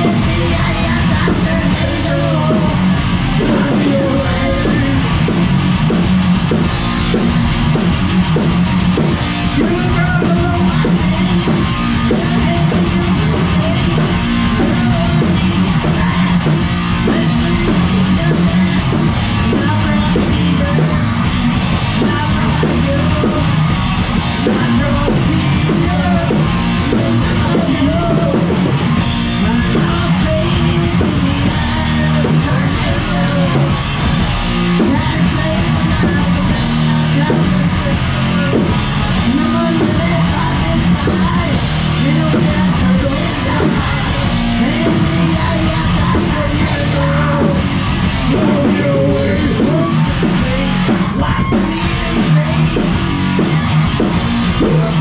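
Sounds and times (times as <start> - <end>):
heavy metal music: 0.0 - 55.0
person singing: 0.0 - 55.0.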